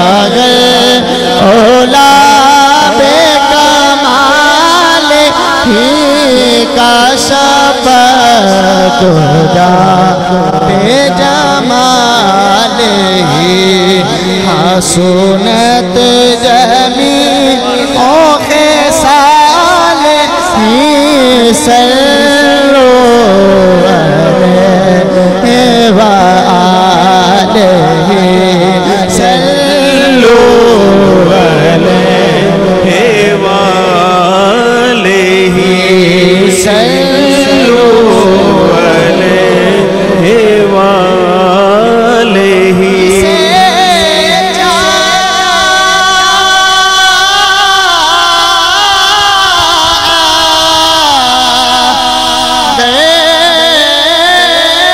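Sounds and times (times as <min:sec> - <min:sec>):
man singing into microphone: 0:00.0 - 0:54.9
wordless sung melody: 0:00.0 - 0:54.9.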